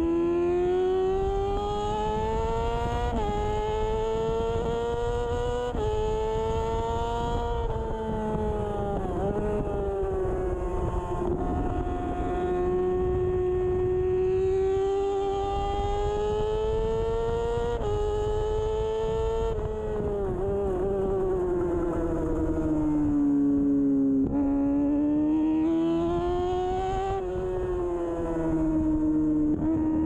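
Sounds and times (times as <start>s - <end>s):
low rush of wind: 0.0s - 30.0s
motorcycle engine at high revs: 0.0s - 30.0s.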